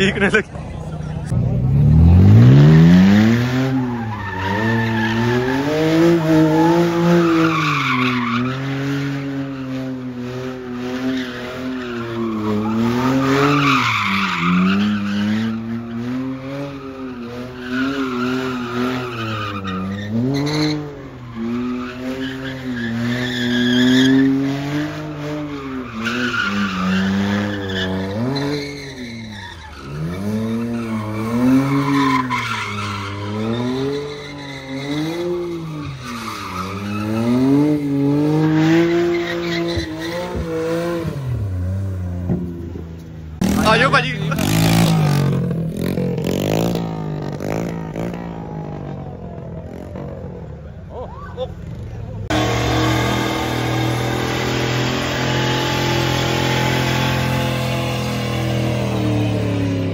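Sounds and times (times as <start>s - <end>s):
car engine revving: 0.0s - 50.8s, 51.8s - 59.9s
tyres squealing and skidding: 0.0s - 59.9s.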